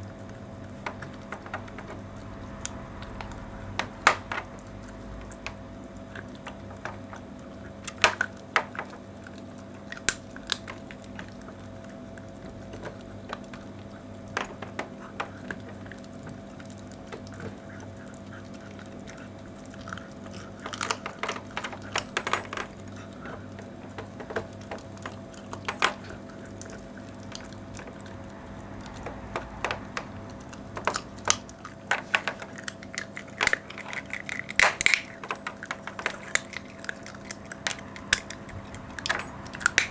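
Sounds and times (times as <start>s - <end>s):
dog chewing and crunching bone: 0.0s - 39.9s
steady low hum: 0.0s - 39.9s
bone cracking: 0.2s - 39.9s.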